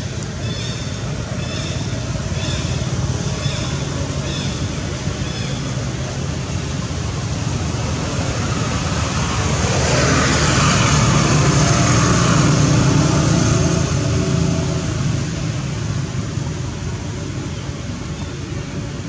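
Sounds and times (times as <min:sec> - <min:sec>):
vehicle passing: 0:00.4 - 0:19.0.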